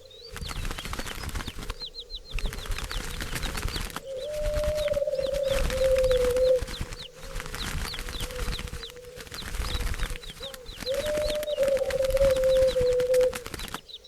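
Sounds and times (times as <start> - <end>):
bird wings flapping: 0.0 - 14.0
long low bird call: 0.0 - 14.0.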